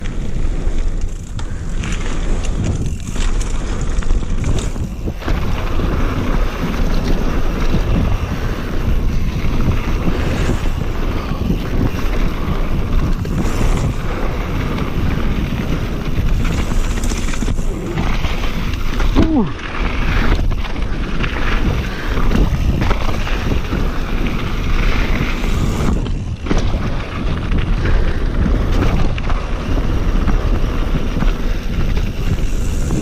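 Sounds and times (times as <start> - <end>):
mountain bike rumbling and rattling: 0.0 - 33.0
wind buffeting microphone: 0.0 - 33.0.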